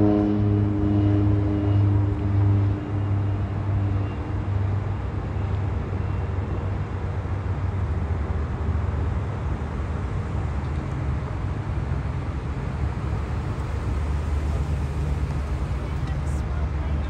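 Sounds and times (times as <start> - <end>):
deep engine drone: 0.0 - 17.0
distant trains passing: 0.0 - 17.0.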